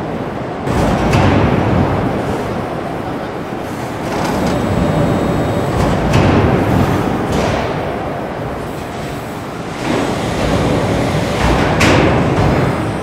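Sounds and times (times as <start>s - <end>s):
steady mechanical rumble: 0.0s - 13.0s.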